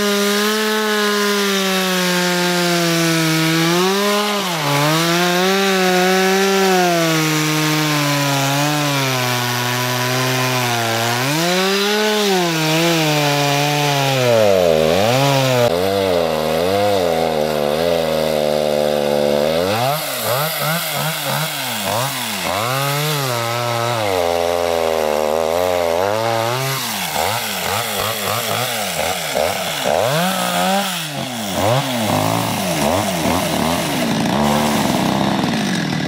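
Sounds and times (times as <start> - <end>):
chainsaw cutting through ice: 0.0 - 36.0.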